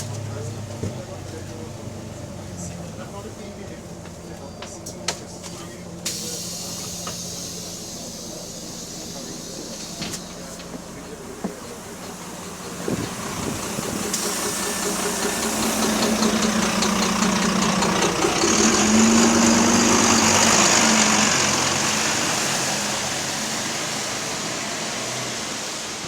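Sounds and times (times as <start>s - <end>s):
diesel engine knocking: 0.0s - 26.0s.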